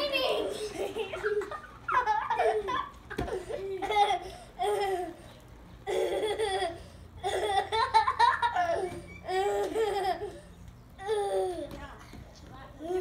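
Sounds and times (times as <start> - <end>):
young children giggling: 0.2 - 5.2, 5.8 - 11.5.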